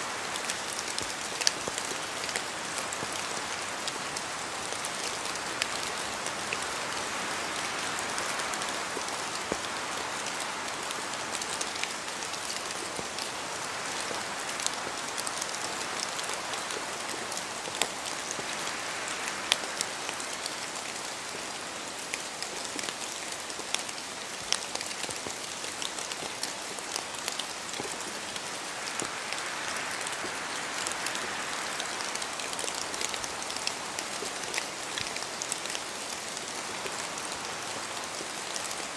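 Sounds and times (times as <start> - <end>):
rain falling in a forest: 0.0 - 38.9.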